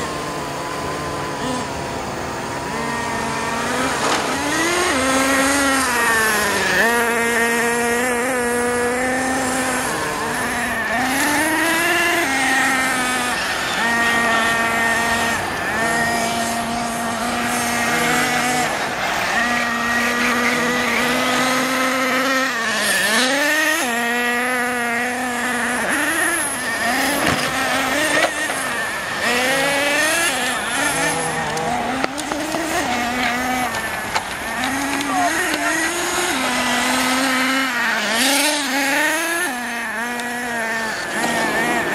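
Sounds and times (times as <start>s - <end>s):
model car engines revving: 0.0s - 41.9s.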